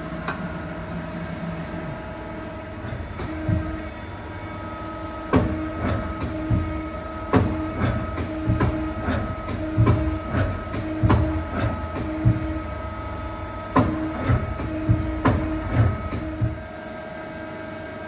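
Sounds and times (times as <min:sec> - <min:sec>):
low machine tone: 0:00.0 - 0:18.0
machine hum: 0:00.0 - 0:18.0.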